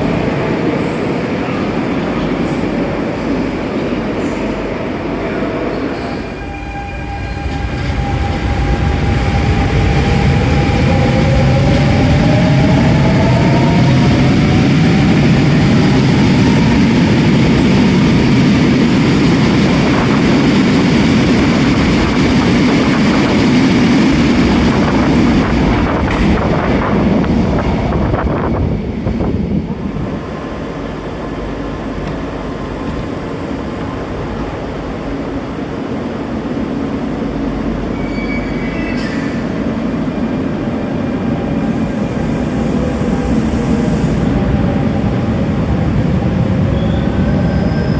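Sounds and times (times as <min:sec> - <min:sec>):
electric train rumbling: 0:00.0 - 0:47.9.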